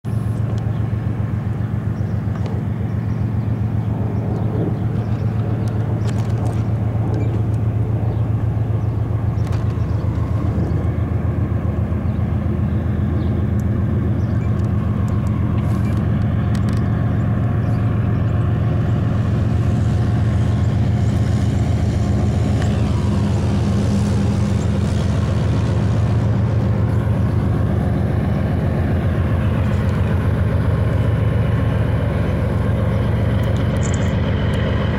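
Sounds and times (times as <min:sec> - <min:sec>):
locomotive engine drone: 0:00.0 - 0:34.9.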